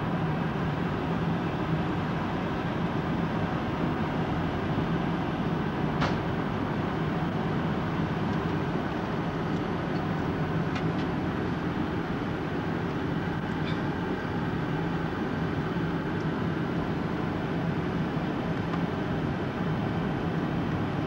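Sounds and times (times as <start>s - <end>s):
airliner cabin engine rush: 0.0s - 21.0s.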